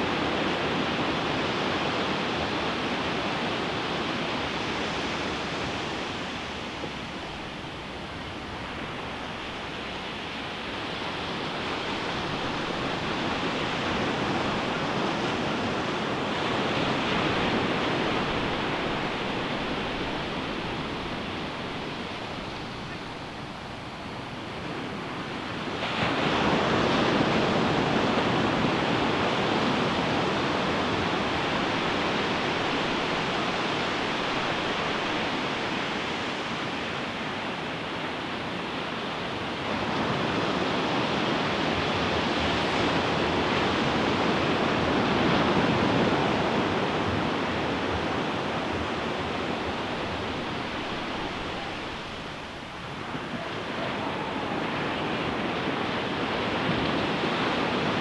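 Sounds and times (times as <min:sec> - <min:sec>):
ocean waves breaking: 0:07.9 - 0:37.3, 0:38.0 - 0:58.0.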